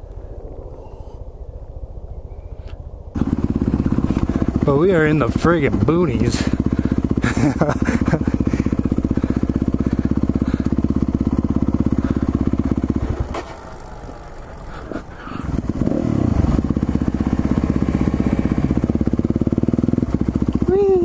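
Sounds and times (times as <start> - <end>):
dirt bike engine running: 3.1 - 21.0.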